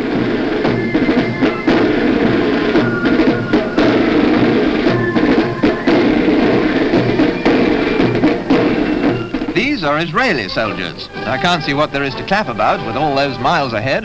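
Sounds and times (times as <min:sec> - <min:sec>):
bass drum beat: 0:00.0 - 0:14.0
military band march music: 0:00.0 - 0:14.0.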